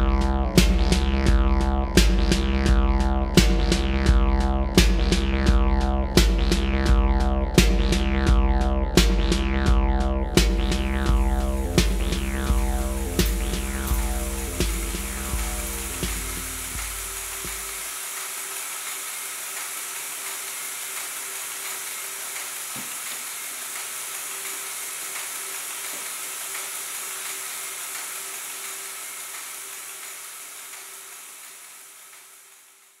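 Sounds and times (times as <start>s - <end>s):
deep electronic drone: 0.0s - 32.1s
faint hum: 0.0s - 33.0s
steady crackling hiss: 0.0s - 33.0s.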